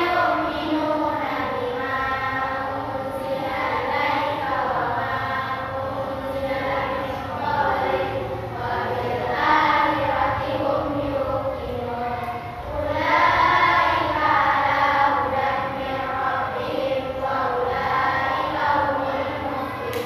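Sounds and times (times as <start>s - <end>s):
girls chanting in unison: 0.0s - 20.0s.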